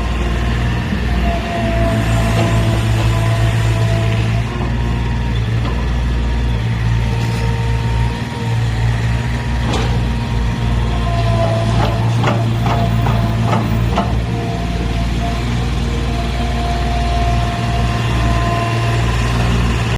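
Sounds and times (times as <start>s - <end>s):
heavy machine engine humming: 0.0s - 19.9s.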